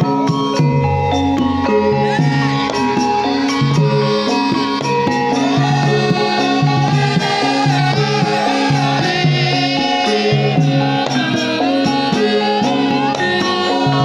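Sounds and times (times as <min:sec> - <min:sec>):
gamelan metallophones ringing: 0:00.0 - 0:14.0
woman singing: 0:02.0 - 0:14.0.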